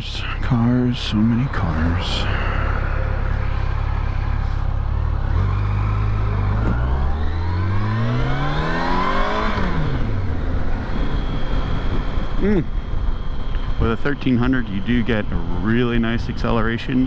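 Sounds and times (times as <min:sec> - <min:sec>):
motorcycle engine accelerating: 0:00.7 - 0:17.0.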